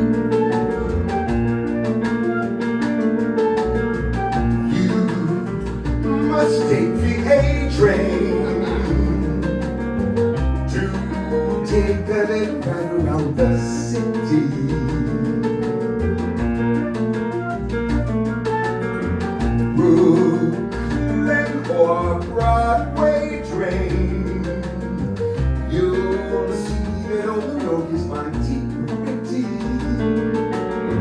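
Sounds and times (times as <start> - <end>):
bass: 0.0 - 31.0
piano chords: 0.0 - 31.0.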